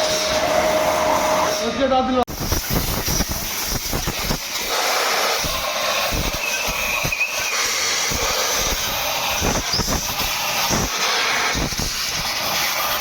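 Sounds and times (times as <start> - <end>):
high-pressure jet hissing: 0.0 - 13.0.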